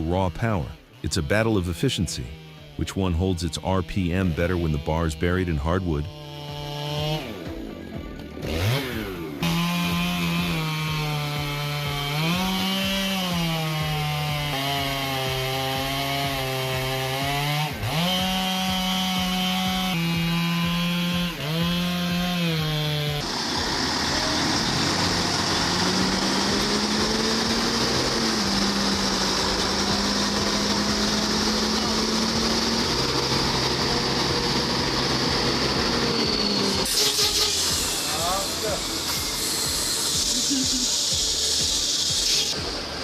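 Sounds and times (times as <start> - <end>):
chainsaws cutting hardwood: 0.0 - 43.0.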